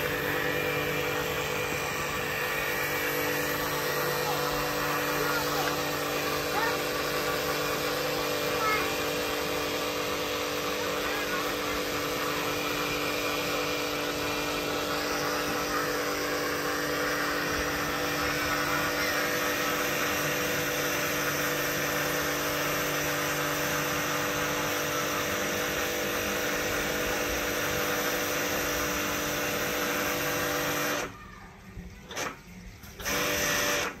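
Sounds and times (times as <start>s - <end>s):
pressure washer pump humming: 0.0s - 31.2s, 31.8s - 34.0s.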